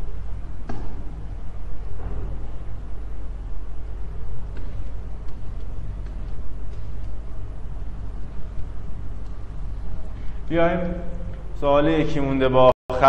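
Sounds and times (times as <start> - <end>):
low electrical hum: 0.0 - 13.0
rumbling background noise: 0.0 - 13.0.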